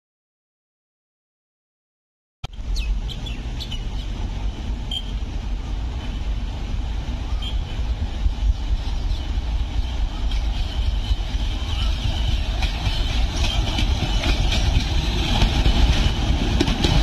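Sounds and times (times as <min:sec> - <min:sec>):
birds chirping: 0:02.5 - 0:16.3
approaching train rumble: 0:02.5 - 0:17.0.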